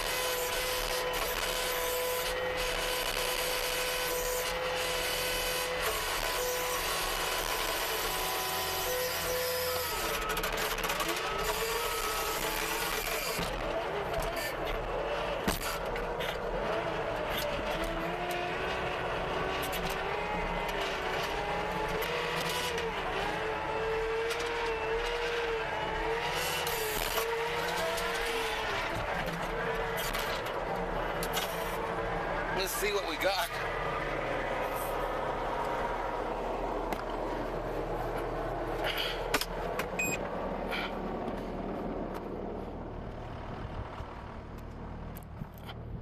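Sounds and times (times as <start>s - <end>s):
skid steer with rototiller: 0.0s - 46.0s.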